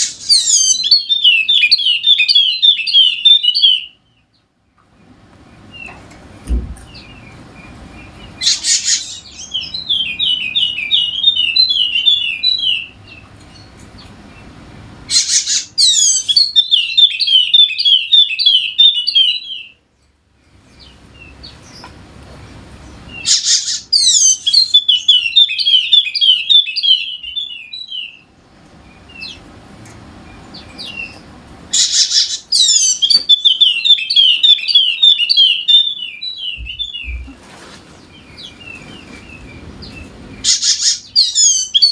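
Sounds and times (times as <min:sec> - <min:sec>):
white-eye bird singing: 0:00.0 - 0:29.5, 0:30.2 - 0:37.4, 0:38.0 - 0:41.9.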